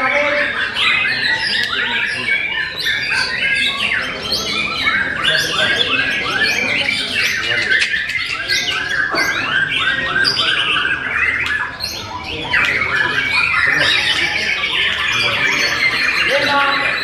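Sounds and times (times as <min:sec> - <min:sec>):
birds singing whistles and chatter: 0:00.0 - 0:17.0.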